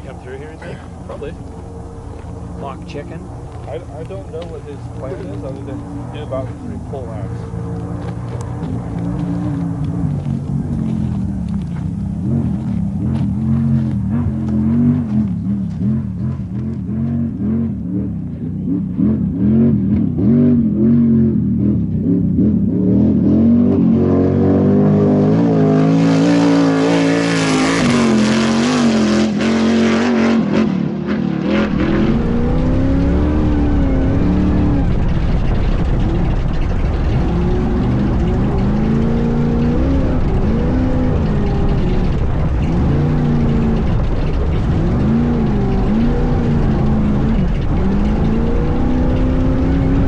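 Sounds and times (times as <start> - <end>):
buggy engine revving: 0.0 - 50.0.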